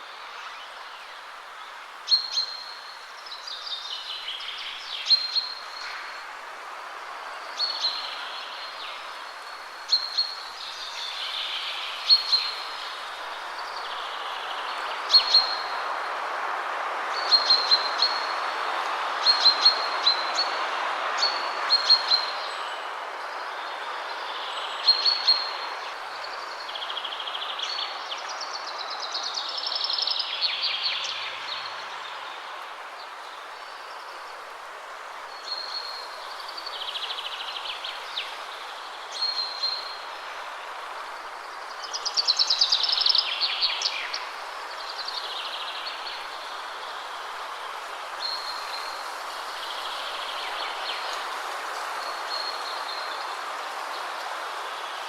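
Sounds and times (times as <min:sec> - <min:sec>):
songbirds chirping: 0:00.0 - 0:55.0
wind rustling through trees: 0:00.0 - 0:55.0.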